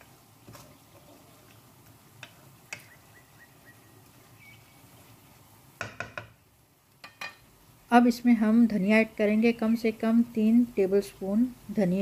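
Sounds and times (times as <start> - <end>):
faint sizzling in a wok: 0.0 - 12.0.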